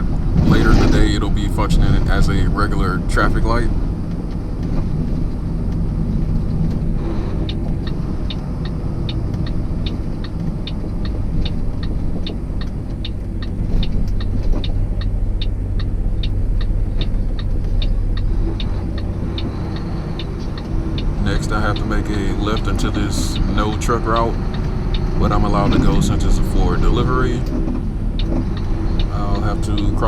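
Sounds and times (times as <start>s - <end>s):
truck engine and road rumble: 0.0s - 30.0s
turn signal ticking: 0.0s - 30.0s.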